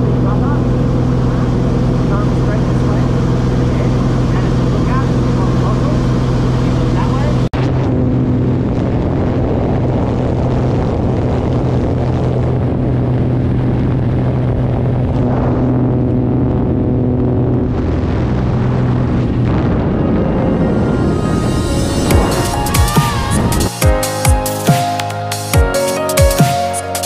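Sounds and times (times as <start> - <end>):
light aircraft engine droning: 0.0 - 23.7
rushing wind: 0.0 - 24.4.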